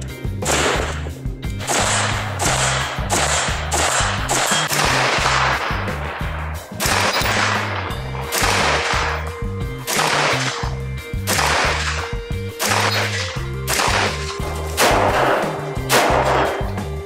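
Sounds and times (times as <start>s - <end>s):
background music with driving beat: 0.0s - 17.0s
heavy low bass notes: 0.0s - 17.0s.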